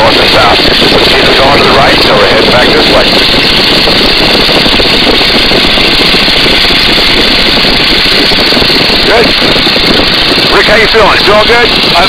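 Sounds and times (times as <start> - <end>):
biplane engine and propeller: 0.0 - 12.0
wind rush: 0.0 - 12.0.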